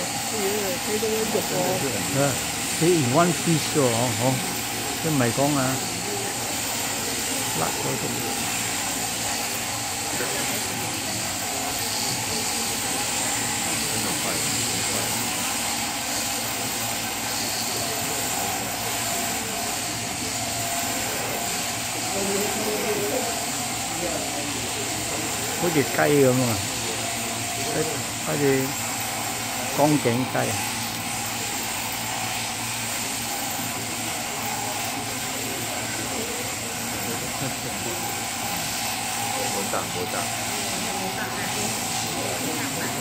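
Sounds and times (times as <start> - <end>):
shearing handpiece buzzing: 0.0 - 43.0.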